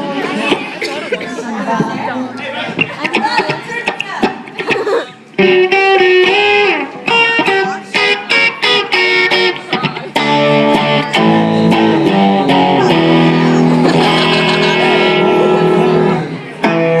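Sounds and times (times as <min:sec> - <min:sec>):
electric guitar chords: 0:02.8 - 0:17.0.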